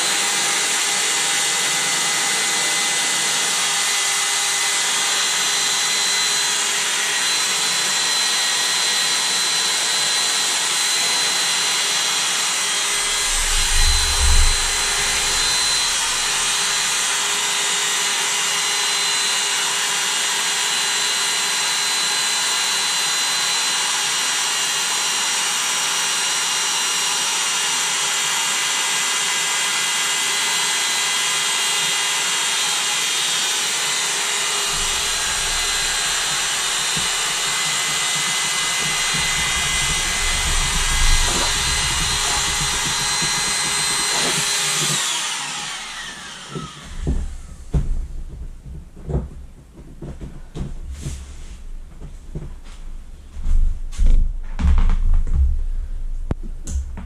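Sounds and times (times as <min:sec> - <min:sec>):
electric air pump whining: 0:00.0 - 0:57.0.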